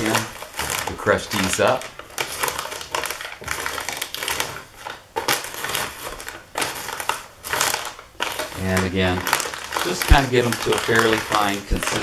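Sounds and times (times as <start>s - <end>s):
rolling pin crushing dry berries: 0.0s - 12.0s.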